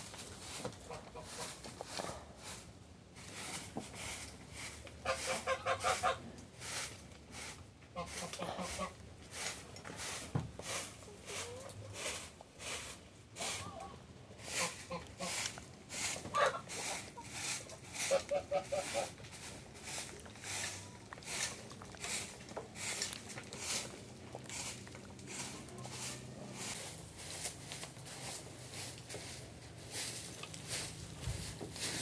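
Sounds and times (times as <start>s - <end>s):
broom sweeping dirt: 0.0s - 32.0s.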